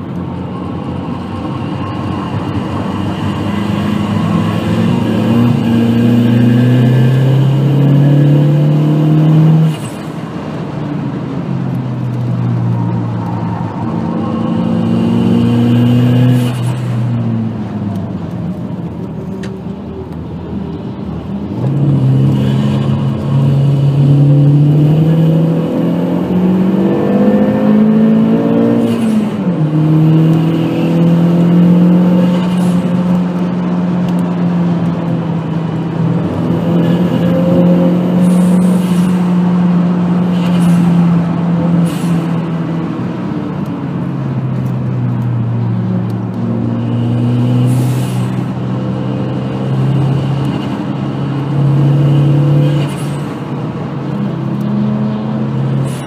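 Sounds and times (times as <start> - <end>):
car engine revving: 0.0 - 56.0
tyre and road noise: 0.0 - 56.0.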